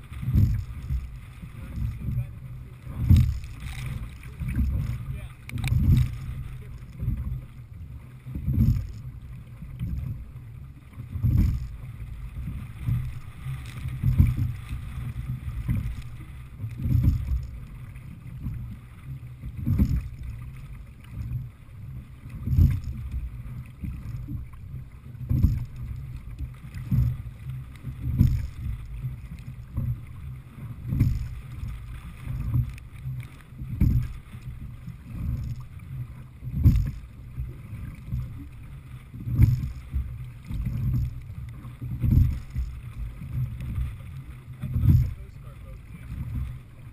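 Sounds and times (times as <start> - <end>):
oar stroke thumps: 0.0 - 46.9
water rushing against hull: 0.0 - 46.9.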